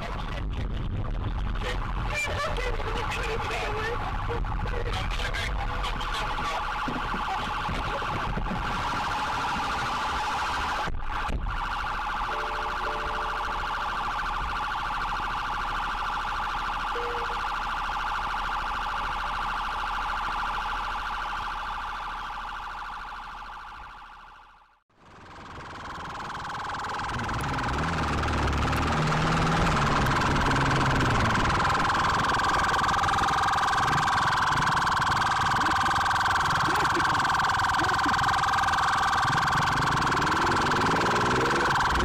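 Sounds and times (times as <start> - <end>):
police siren warbling: 1.6 - 42.0.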